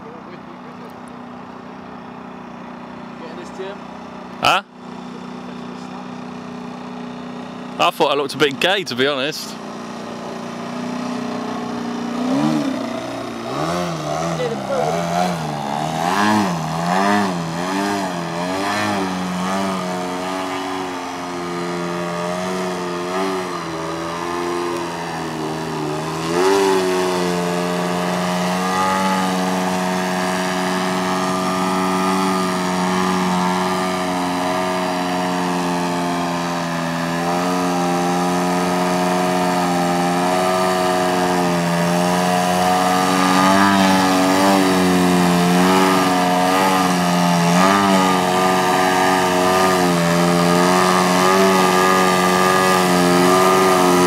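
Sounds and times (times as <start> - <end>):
model plane engine droning: 0.0 - 54.0.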